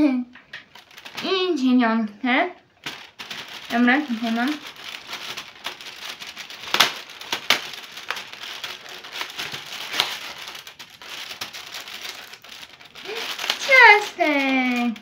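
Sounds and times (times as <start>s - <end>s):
cardboard crinkling and rustling: 0.4s - 1.7s, 2.8s - 15.0s.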